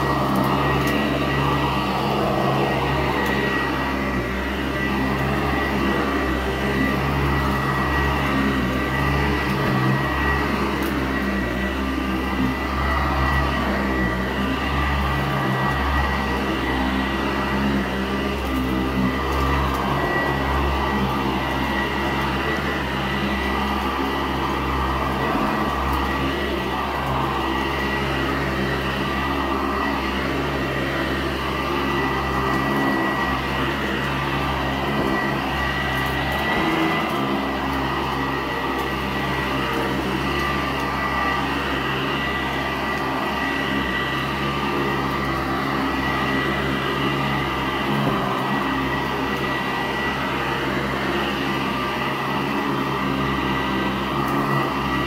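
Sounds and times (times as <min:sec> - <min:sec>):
upright vacuum running on carpet: 0:00.0 - 0:55.0.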